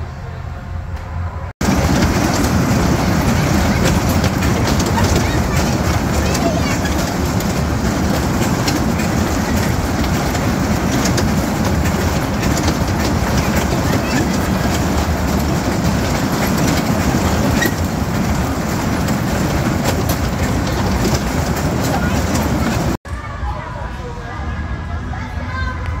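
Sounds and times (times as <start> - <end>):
ride machinery rumble: 0.0 - 23.0.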